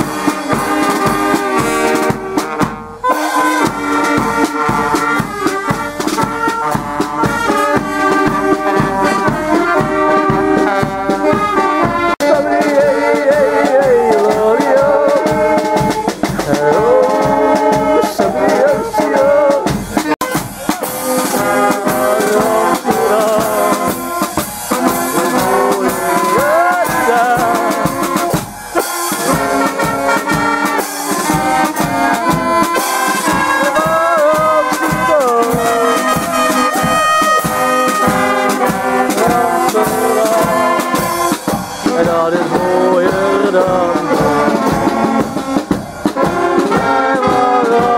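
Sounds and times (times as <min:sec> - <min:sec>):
brass band playing: 0:00.0 - 0:47.9.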